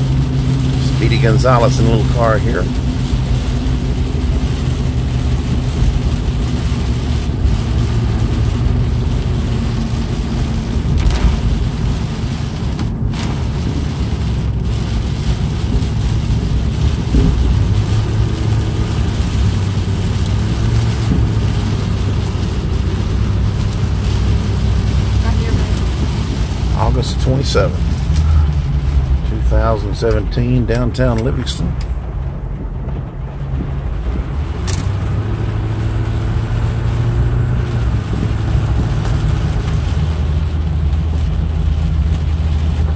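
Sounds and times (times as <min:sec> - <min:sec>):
tyres hissing on wet pavement: 0:00.0 - 0:32.5, 0:33.1 - 0:42.9
car engine and road hum: 0:00.0 - 0:42.9
rain on windshield: 0:00.0 - 0:42.9.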